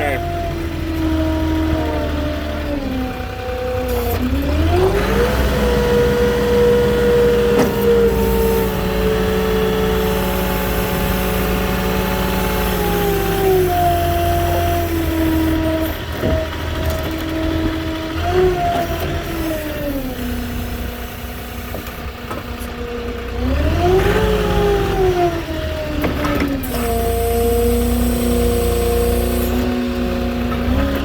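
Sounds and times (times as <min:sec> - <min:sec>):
forklift engine revving: 0:00.0 - 0:31.0.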